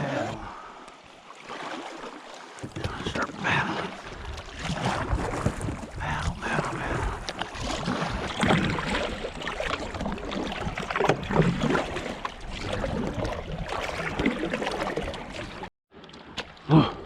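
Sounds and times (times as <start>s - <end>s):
kayak paddle splashing: 0.0s - 16.7s.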